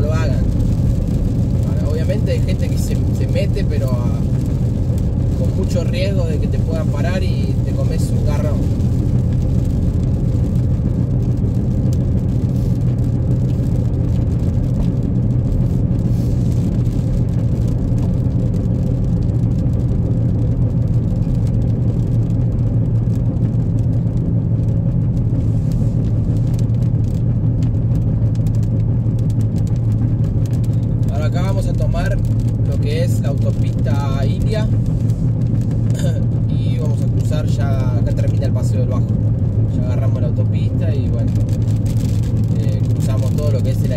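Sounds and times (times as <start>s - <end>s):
car engine and tyre hum: 0.0s - 43.9s.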